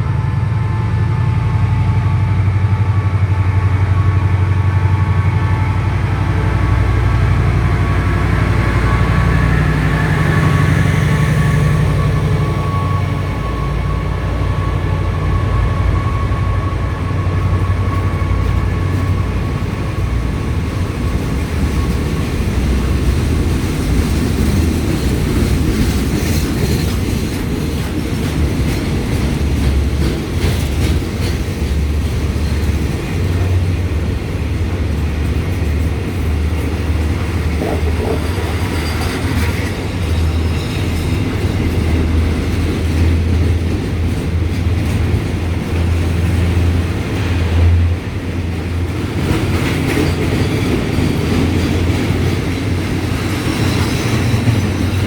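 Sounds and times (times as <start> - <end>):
locomotive engine drone: 0.0 - 55.0
train rumbling on rails: 0.0 - 55.0.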